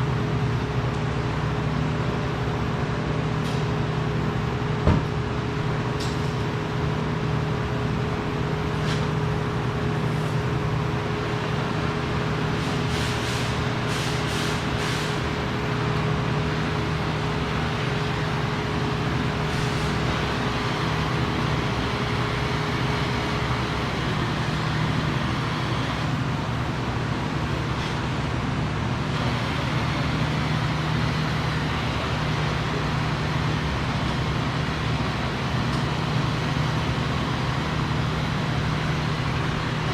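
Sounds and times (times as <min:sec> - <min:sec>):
machinery hum: 0:00.0 - 0:39.9.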